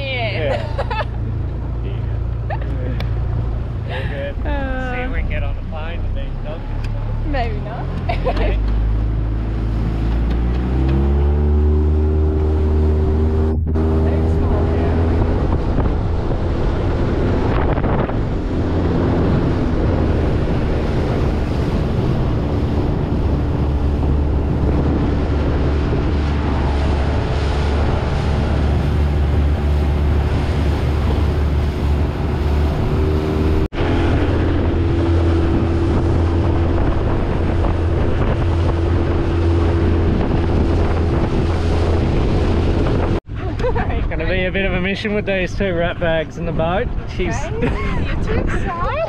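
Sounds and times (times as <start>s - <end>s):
outboard motor running: 0.0s - 49.0s
water rushing along hull: 0.0s - 49.0s
wind buffeting microphone: 7.4s - 49.0s.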